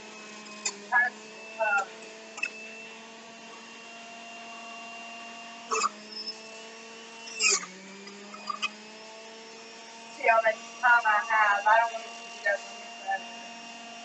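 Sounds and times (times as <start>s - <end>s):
juicer motor humming: 0.0s - 14.0s.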